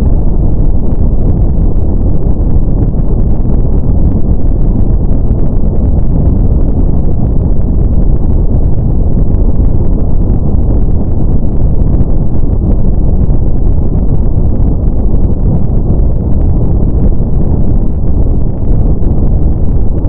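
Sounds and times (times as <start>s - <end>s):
brown noise: 0.0s - 20.0s.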